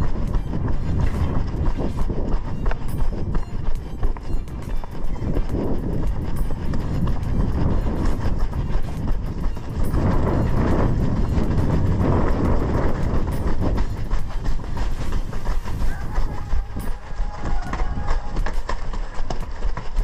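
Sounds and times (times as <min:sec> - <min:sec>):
running footsteps on gravel: 0:00.0 - 0:20.0
wind rumbling on microphone: 0:00.0 - 0:20.0.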